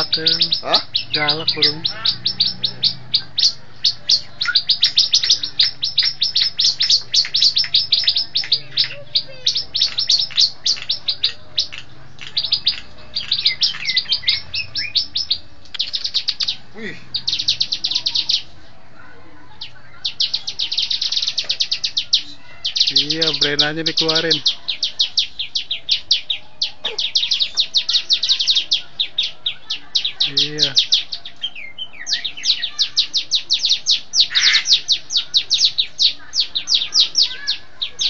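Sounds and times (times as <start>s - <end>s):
bird singing rapid high chirps: 0.0s - 18.6s, 19.5s - 38.0s.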